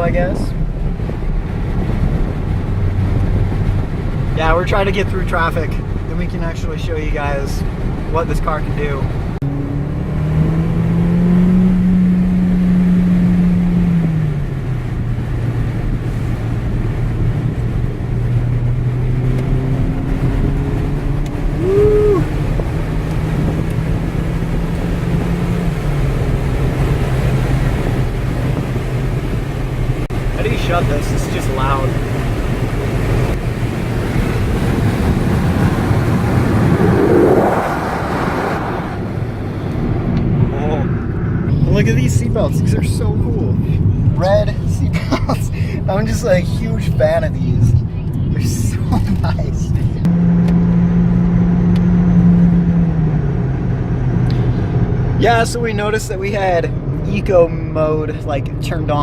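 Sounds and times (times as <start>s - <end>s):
car engine pulling: 0.0s - 59.0s
road noise: 0.0s - 59.0s.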